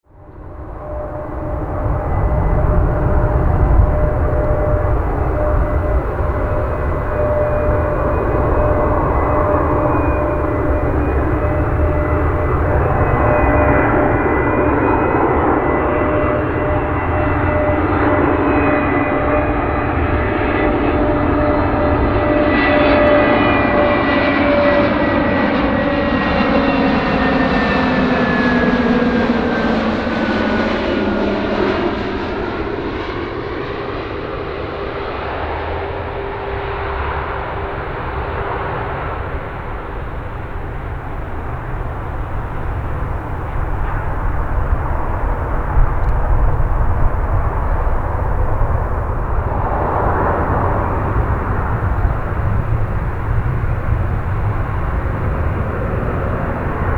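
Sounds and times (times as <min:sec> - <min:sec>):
jet engine whine: 0:00.0 - 0:56.9
jet airliner rumble: 0:00.1 - 0:56.9.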